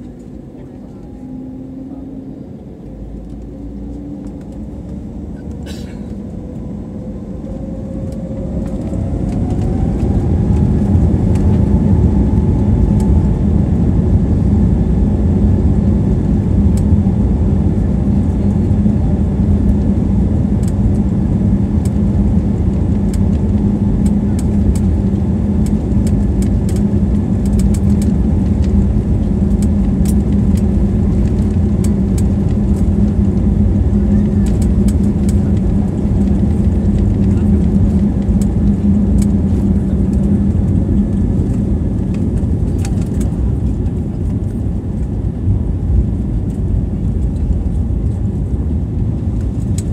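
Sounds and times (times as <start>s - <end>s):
jet engines whining and roaring: 0.0s - 49.9s.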